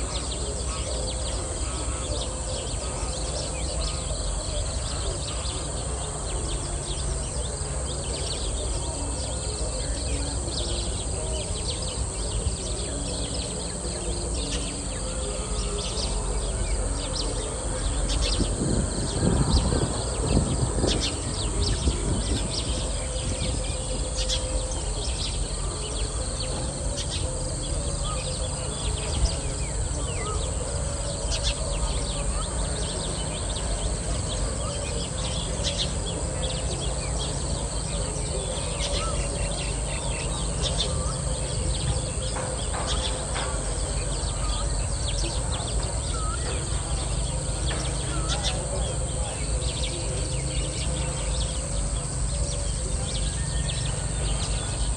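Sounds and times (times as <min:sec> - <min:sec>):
birds chirping: 0:00.0 - 0:54.9
faint distant voices: 0:00.0 - 0:54.9
insect drone: 0:00.0 - 0:54.9.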